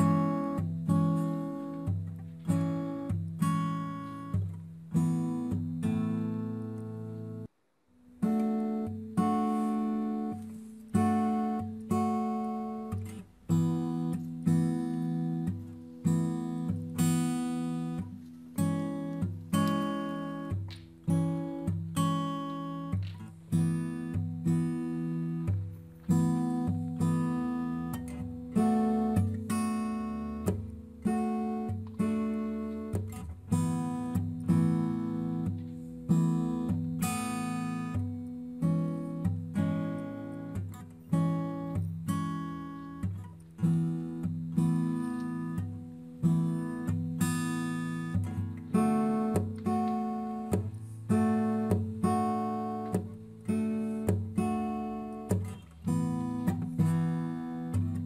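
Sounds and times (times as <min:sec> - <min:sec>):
acoustic guitar chords: 0:00.0 - 0:58.0.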